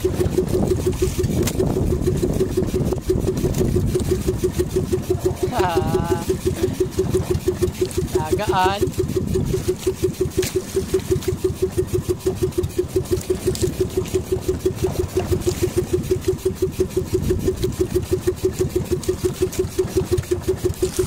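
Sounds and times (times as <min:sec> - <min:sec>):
boat engine chugging at idle: 0:00.0 - 0:21.0.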